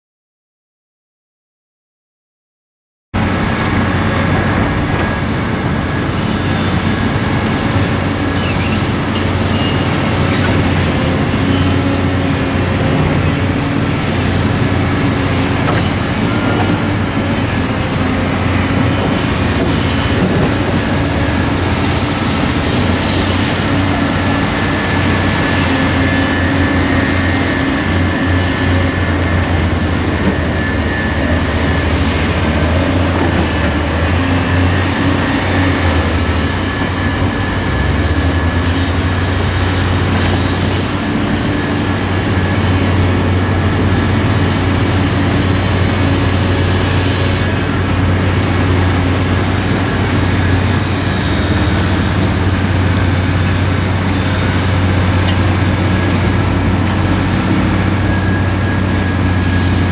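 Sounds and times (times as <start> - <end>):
construction machinery hum: 3.2 - 59.9.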